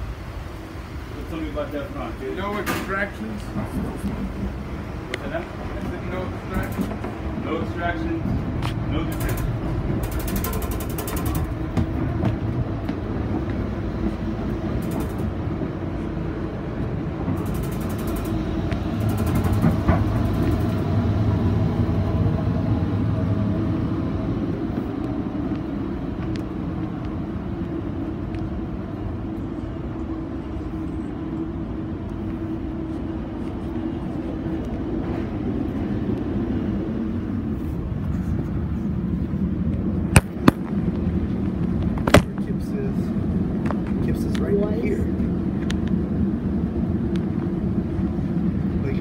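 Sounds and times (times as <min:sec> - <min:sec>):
train coach rumble and hum: 0:00.0 - 0:49.0.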